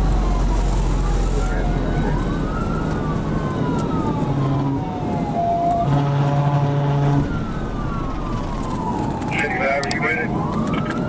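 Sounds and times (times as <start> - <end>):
police siren wailing: 0.0 - 11.0
road and engine noise: 0.0 - 11.0
second siren wail: 0.0 - 11.0.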